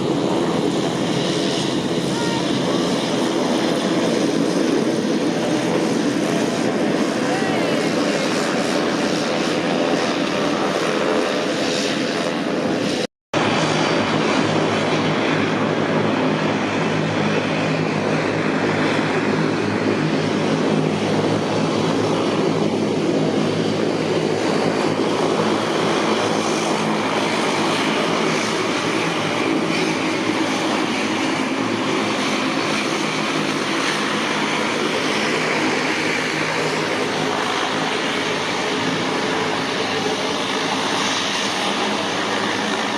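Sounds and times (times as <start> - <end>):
turboprop engines droning: 0.0 - 42.9.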